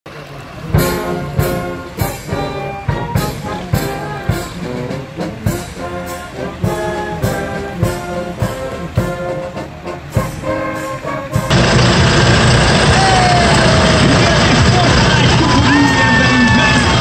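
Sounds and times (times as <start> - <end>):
brass band playing: 0.5 - 17.0
steady beat: 0.7 - 17.0.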